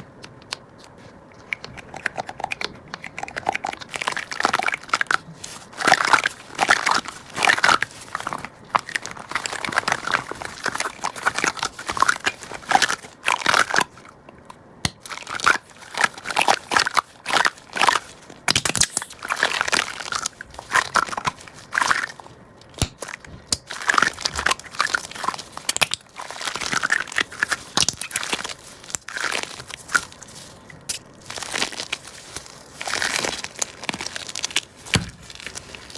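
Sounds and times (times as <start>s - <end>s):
squishy toy crinkly squishes: 0.0s - 35.9s.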